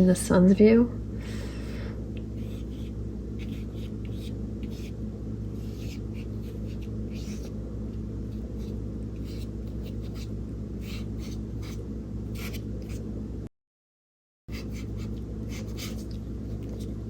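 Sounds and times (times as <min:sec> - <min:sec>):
steady low hum: 0:00.0 - 0:13.5, 0:14.5 - 0:17.0.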